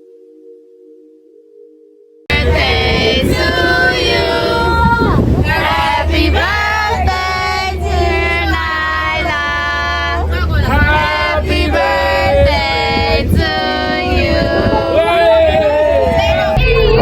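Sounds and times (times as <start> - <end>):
steady bass: 2.3 - 17.0.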